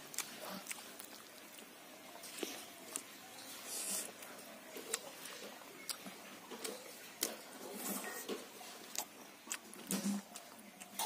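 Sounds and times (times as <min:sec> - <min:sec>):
soft chewing: 0:00.0 - 0:11.0.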